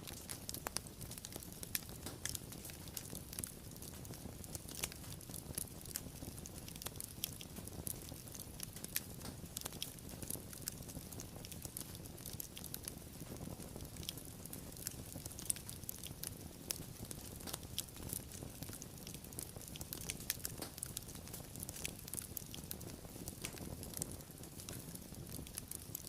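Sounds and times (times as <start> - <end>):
low rumble of burning: 0.0 - 26.0
wood fire crackling: 0.0 - 26.0
sharp pops and snaps: 0.1 - 26.0.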